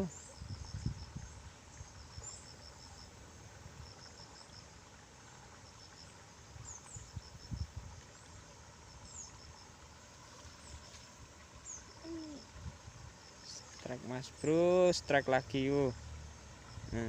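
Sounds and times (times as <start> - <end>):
insect chirps: 0.0 - 17.0.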